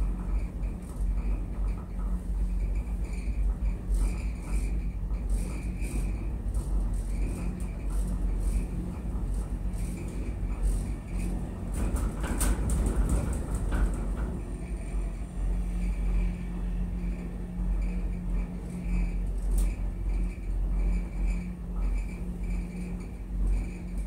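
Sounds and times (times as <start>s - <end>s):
gondola cabin rumble and hum: 0.0s - 24.0s.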